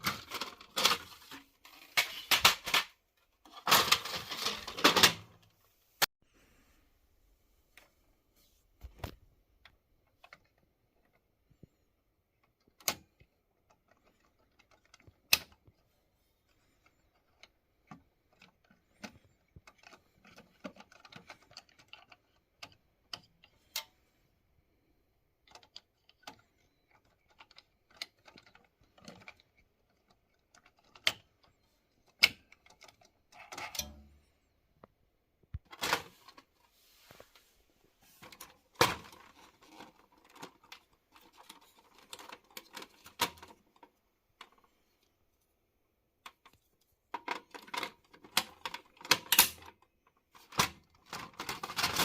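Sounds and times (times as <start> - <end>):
plastic parts clicking and rattling: 0.0 - 5.6, 8.8 - 24.2, 24.8 - 34.9, 35.5 - 52.0.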